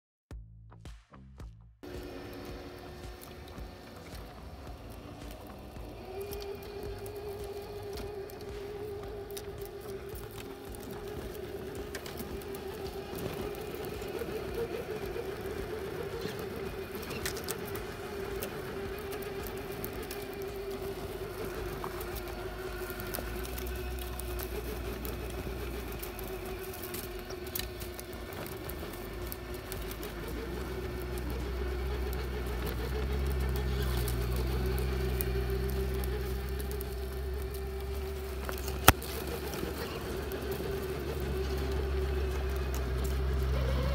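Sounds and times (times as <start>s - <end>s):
electric motor and gears whining: 1.8s - 43.9s.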